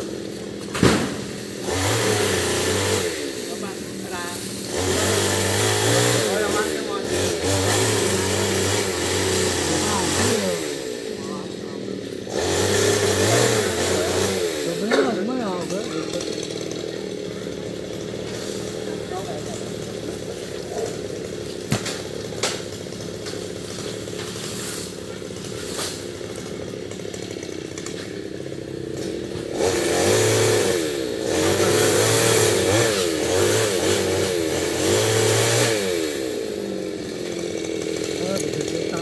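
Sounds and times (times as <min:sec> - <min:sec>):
chainsaw cutting wood: 0:00.0 - 0:39.0
chainsaw running: 0:00.0 - 0:39.0.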